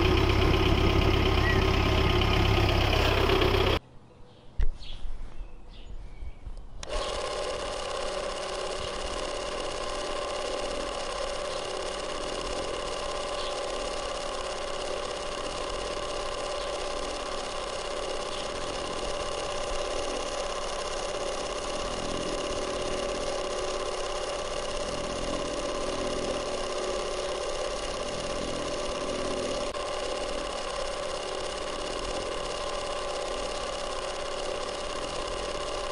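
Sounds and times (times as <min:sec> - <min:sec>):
electric water pump whine: 0:00.0 - 0:03.8, 0:06.8 - 0:35.9.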